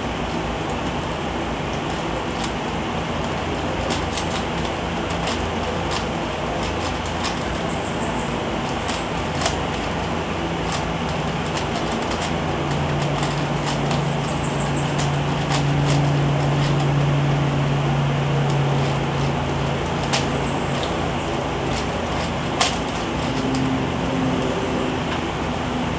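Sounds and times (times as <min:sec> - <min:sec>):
steady hiss and low hum: 0:00.0 - 0:25.9.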